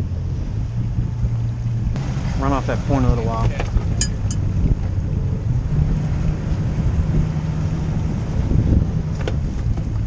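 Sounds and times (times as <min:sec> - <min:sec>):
boat engine idling: 0:00.0 - 0:10.0
wind buffeting microphone: 0:00.0 - 0:10.0.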